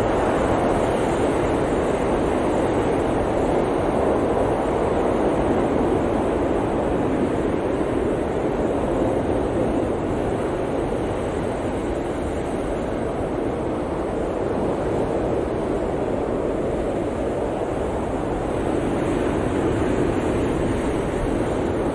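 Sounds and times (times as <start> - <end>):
blizzard wind blowing: 0.0 - 21.9.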